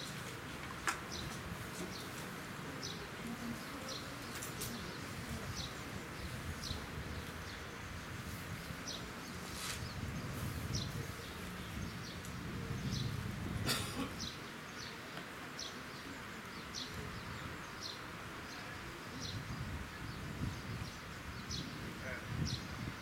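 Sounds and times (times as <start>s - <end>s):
low background murmur: 0.0s - 23.0s.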